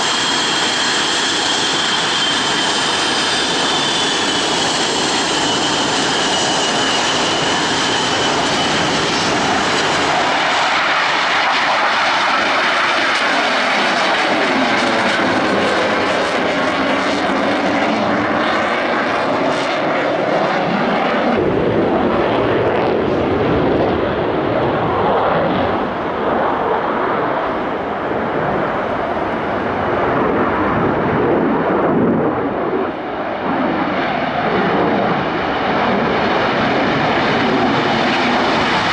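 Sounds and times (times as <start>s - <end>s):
jets flying overhead: 0.0s - 38.9s.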